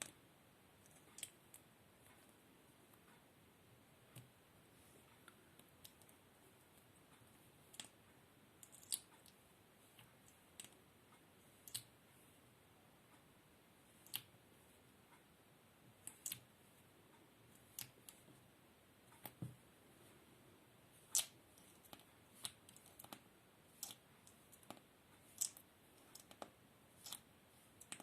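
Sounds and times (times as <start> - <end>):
quiet steady hiss: 0.0 - 28.0.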